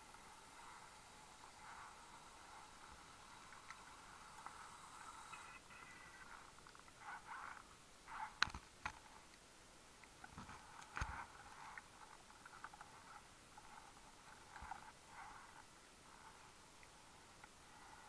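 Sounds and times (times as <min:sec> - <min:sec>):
muffled underwater crackling: 0:00.0 - 0:18.0.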